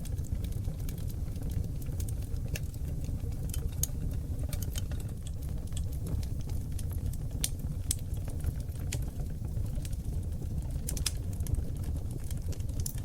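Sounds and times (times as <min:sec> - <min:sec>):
fire flames rumbling: 0:00.0 - 0:13.0
wood fire crackles and pops: 0:00.0 - 0:13.0.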